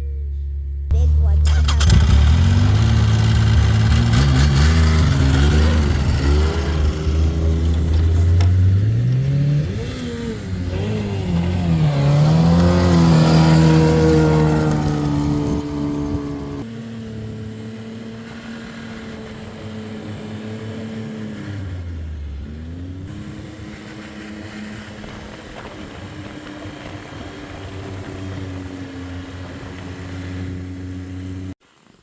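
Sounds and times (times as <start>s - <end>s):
snowmobile engine running: 0.9s - 31.6s.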